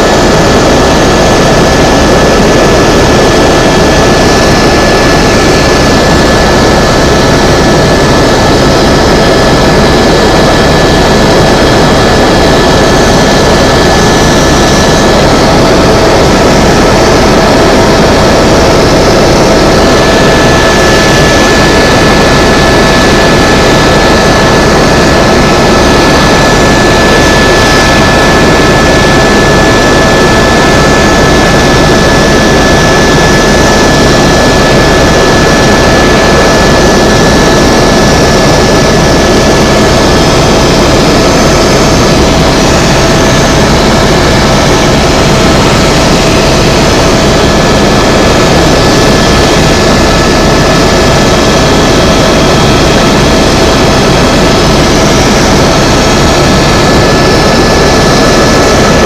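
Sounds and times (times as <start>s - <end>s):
helicopter rotor and turbine noise: 0.0s - 59.0s
high whine: 0.0s - 59.0s.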